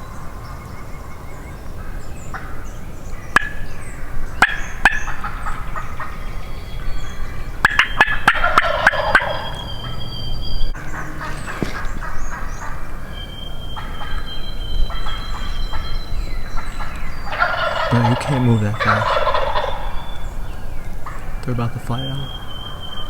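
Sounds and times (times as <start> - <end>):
birds whistling: 0.0 - 23.0
turkeys gobbling: 0.0 - 23.0.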